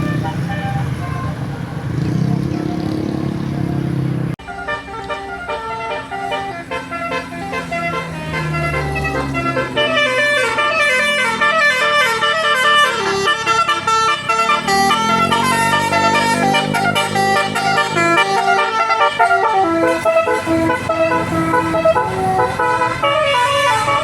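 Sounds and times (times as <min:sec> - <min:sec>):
multi-note musical air horn: 0:04.4 - 0:24.0.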